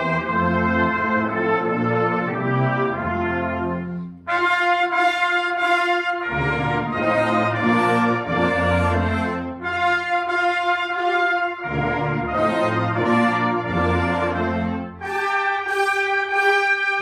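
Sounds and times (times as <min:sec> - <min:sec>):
brass band playing chords: 0:00.0 - 0:17.0
loud high brass chord: 0:00.0 - 0:17.0.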